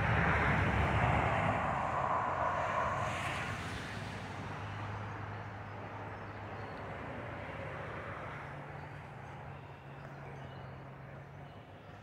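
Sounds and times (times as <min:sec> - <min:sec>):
passing motor vehicle: 0:00.0 - 0:12.0.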